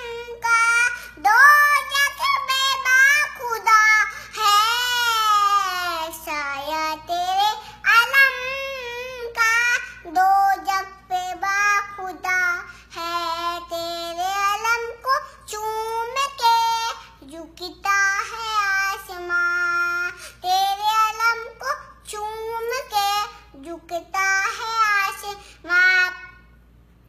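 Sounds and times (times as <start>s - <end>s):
girl singing unaccompanied: 0.0s - 26.6s.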